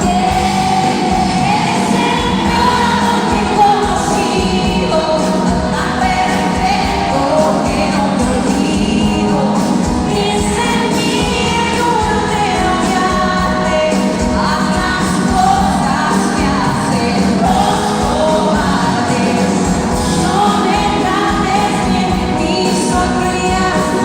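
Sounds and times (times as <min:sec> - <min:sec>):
backing band playing: 0:00.0 - 0:24.0
women singing pop song: 0:00.0 - 0:24.0.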